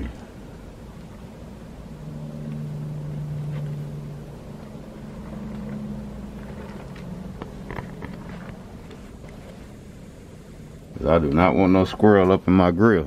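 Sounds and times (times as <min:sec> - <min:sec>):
motor humming: 0:00.0 - 0:11.2.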